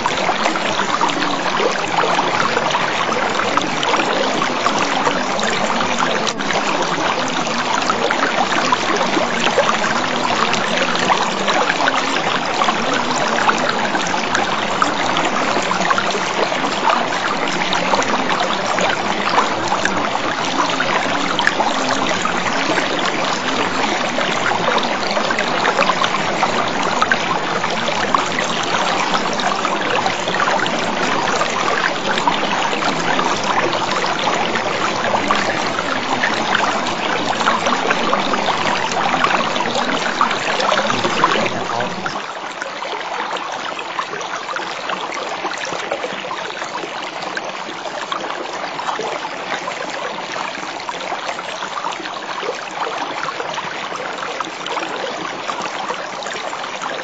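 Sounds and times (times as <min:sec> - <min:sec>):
stream rushing: 0:00.0 - 0:53.7.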